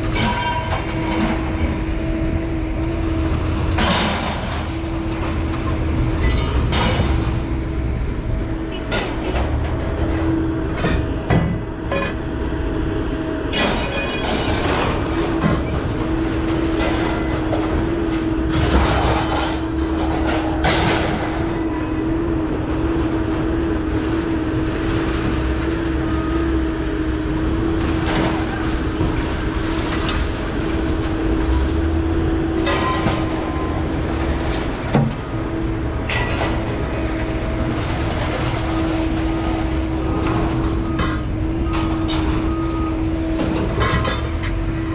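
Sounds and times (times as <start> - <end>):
vehicle rumbling: 0.0 - 44.9.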